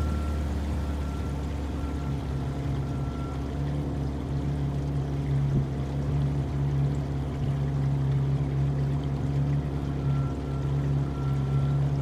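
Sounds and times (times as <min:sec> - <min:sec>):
outboard motor droning: 0:00.0 - 0:12.0
water washing along hull: 0:00.0 - 0:12.0.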